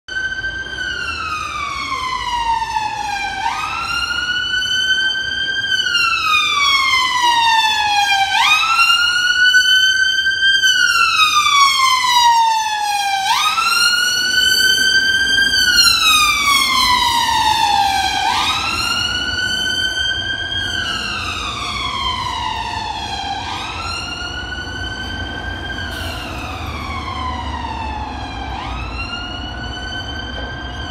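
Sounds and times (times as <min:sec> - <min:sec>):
ambulance siren wailing: 0:00.1 - 0:30.9
traffic rumble: 0:00.1 - 0:30.9.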